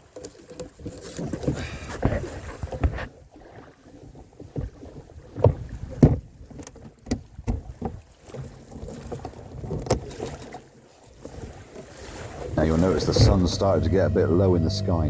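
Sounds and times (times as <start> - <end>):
gear knocking in canoe: 0.0 - 3.2, 3.9 - 10.6, 11.2 - 15.0.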